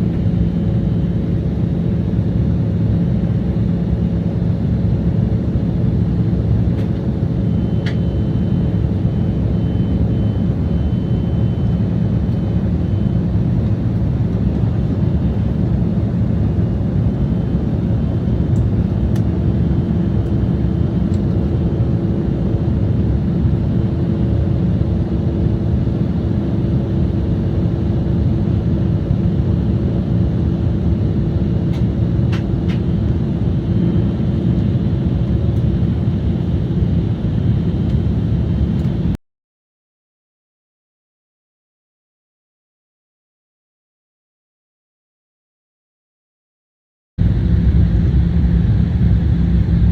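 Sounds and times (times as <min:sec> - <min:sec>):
airliner cabin engine drone: 0:00.0 - 0:39.2, 0:47.2 - 0:49.9.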